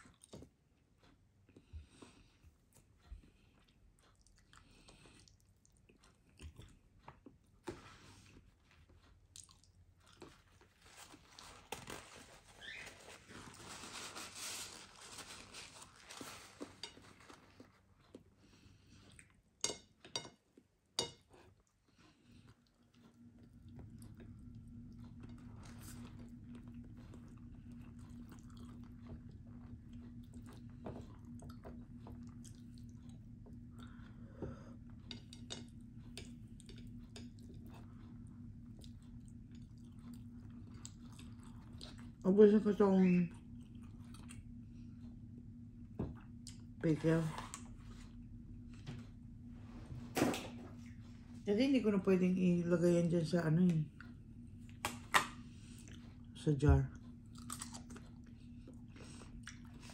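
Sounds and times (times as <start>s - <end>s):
chewing and crunching: 0.0s - 49.2s, 53.6s - 59.9s
steady low hum: 0.0s - 59.9s.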